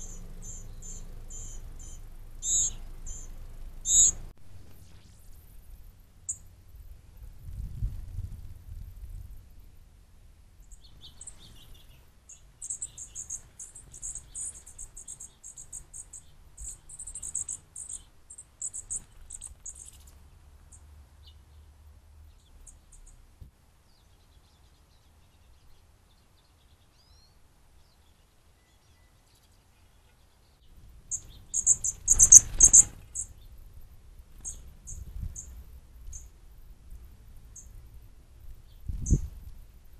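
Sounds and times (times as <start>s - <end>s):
fledgling birds chirping: 0.0s - 6.6s, 10.6s - 23.2s, 23.8s - 39.9s
faint low rumble: 0.0s - 28.0s, 30.6s - 39.9s.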